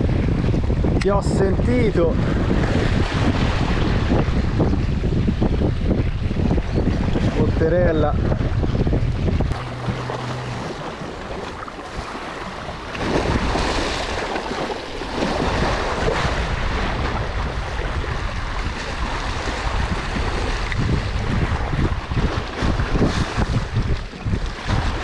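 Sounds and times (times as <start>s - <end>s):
waves washing against rocks: 0.0s - 25.0s
wind buffeting microphone: 0.0s - 25.0s.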